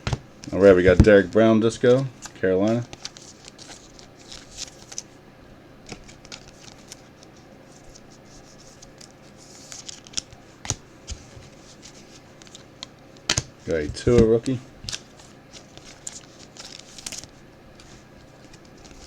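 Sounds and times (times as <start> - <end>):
trading cards and wrappers rustling: 0.5 - 5.1, 5.9 - 12.8, 13.6 - 19.0.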